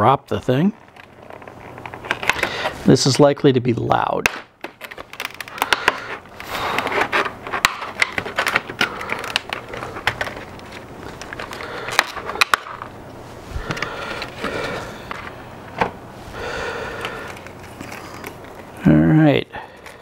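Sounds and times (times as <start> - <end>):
plastic packaging crackling: 0.6 - 2.9, 4.3 - 18.8, 19.6 - 20.0.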